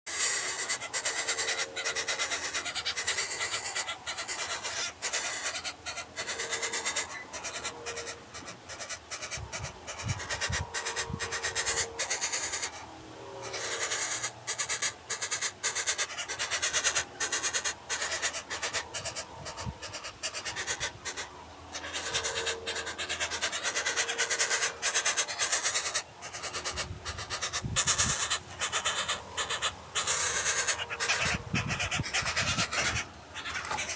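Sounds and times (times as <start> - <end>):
bird hooting: 0.1 - 33.9.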